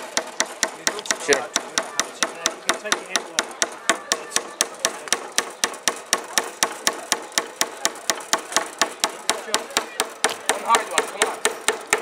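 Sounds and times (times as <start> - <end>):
hammer driving a nail into wood: 0.0 - 12.0.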